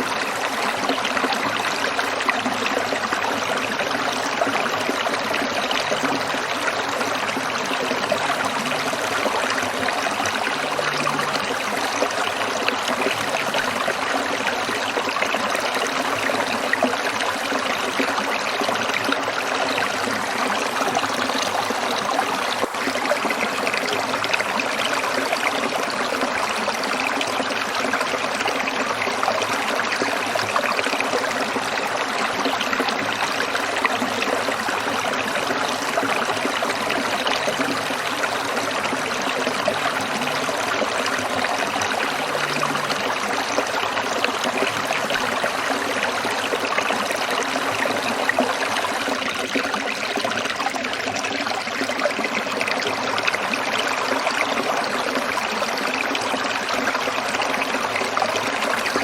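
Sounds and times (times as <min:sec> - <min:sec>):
stream water splashing over rocks: 0:00.0 - 0:59.0.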